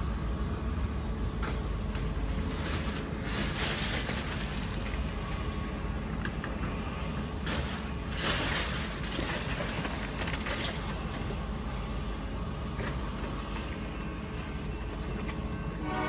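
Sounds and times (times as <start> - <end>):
demolition machinery: 0.0 - 16.0
passing train rumble: 0.0 - 16.0.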